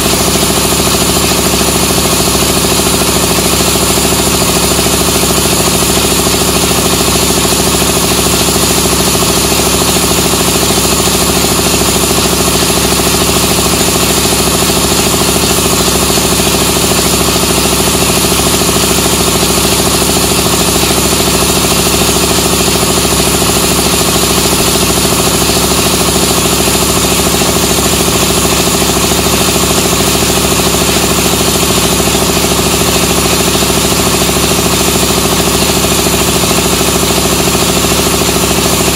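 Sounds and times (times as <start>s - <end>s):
air compressor running loudly: 0.0s - 38.9s.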